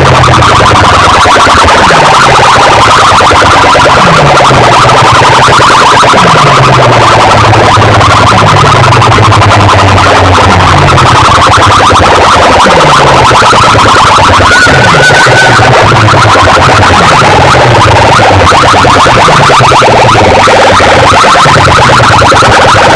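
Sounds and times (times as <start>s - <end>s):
buzzing electronic pattern: 0.0s - 22.9s
loud dj music: 0.0s - 22.9s.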